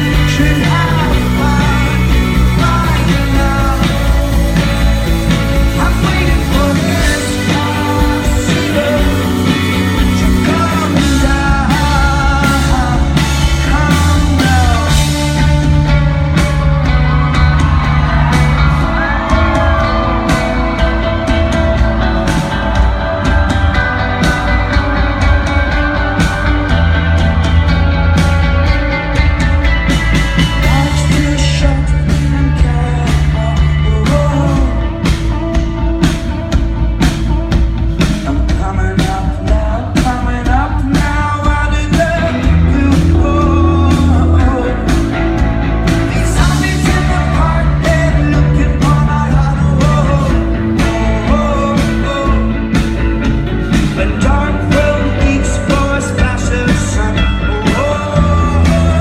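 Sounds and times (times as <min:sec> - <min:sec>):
lead singer singing: 0:00.0 - 0:59.0
live rock band playing: 0:00.0 - 0:59.0.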